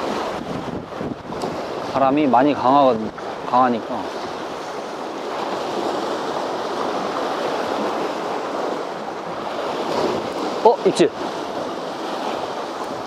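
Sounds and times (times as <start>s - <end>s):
strong wind: 0.0s - 13.0s
surf on rocky shore: 0.0s - 13.0s.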